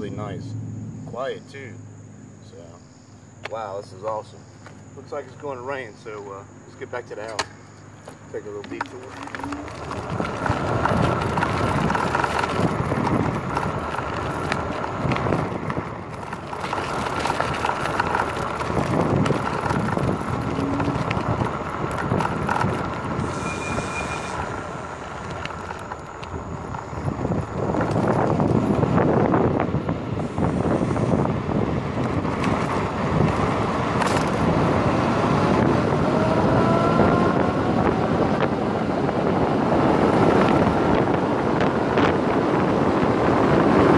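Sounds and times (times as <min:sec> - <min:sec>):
tyre hum on asphalt: 0:06.9 - 0:43.9
wind buffeting microphone: 0:08.7 - 0:43.9.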